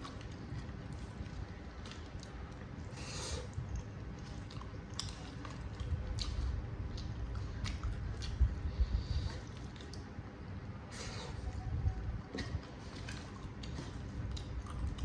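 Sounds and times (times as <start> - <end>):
chewing noodles: 0.0 - 15.0.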